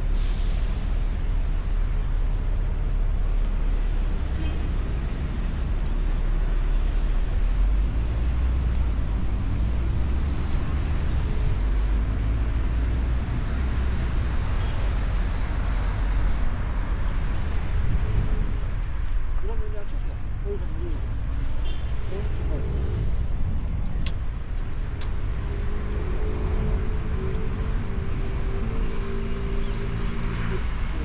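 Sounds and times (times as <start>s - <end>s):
road noise: 0.0s - 31.0s.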